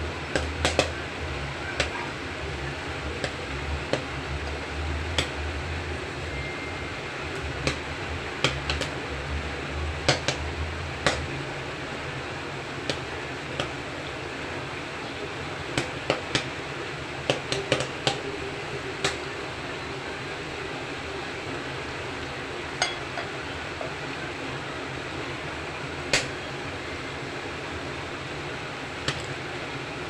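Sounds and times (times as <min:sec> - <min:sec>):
fan-like hiss: 0:00.0 - 0:30.0.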